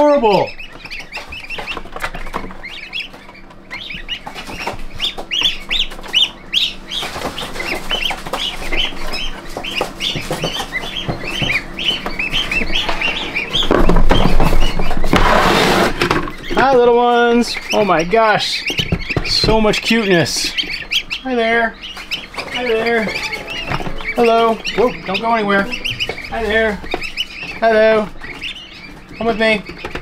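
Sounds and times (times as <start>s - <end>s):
goslings peeping: 0.0s - 30.0s.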